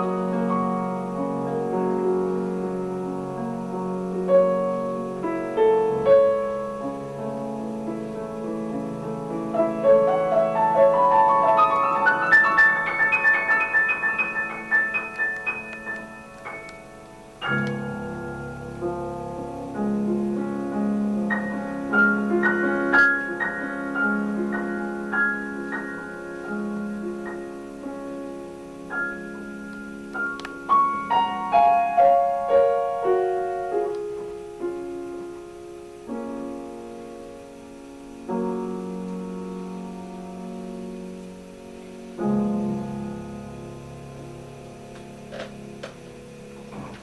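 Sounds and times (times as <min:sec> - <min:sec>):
slow piano melody: 0:00.0 - 0:47.0.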